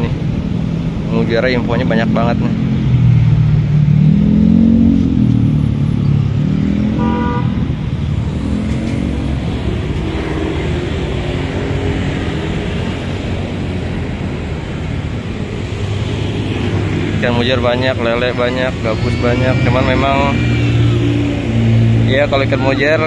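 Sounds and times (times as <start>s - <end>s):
vehicle engine passing: 1.8s - 23.0s.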